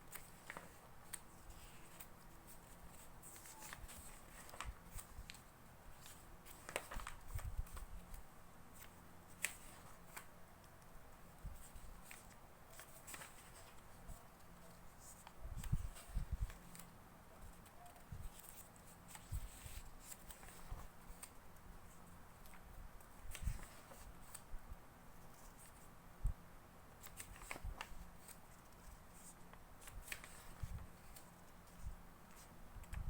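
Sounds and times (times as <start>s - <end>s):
magazine pages turning: 0.0s - 10.9s, 11.6s - 22.6s, 23.3s - 24.5s, 27.0s - 33.0s.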